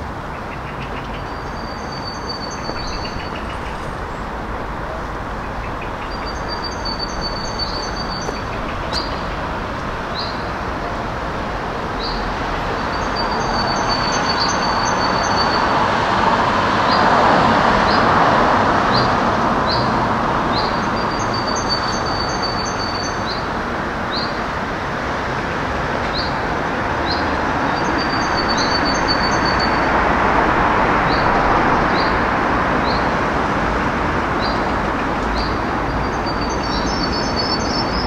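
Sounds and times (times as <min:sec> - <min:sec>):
street traffic noise: 0:00.0 - 0:38.0.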